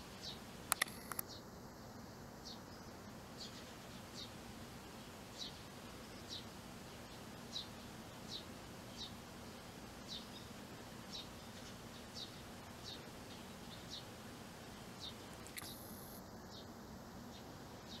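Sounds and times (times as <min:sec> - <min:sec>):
faint low hum: 0:00.0 - 0:18.0
sparrow chirping: 0:00.1 - 0:01.5, 0:02.4 - 0:18.0.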